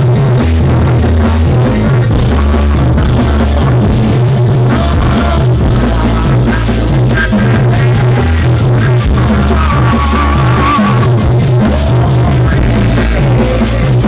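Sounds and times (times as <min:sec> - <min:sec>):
loud music with pulsing bass: 0:00.0 - 0:14.0.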